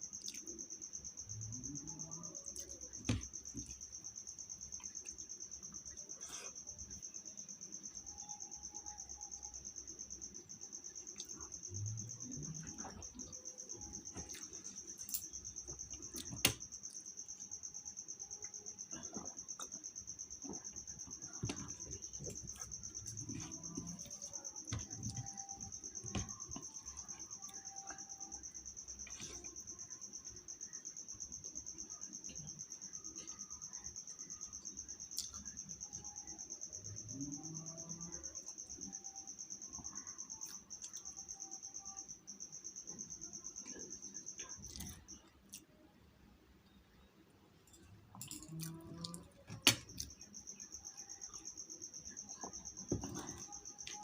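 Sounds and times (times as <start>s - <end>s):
cricket trilling: 0.0s - 54.0s.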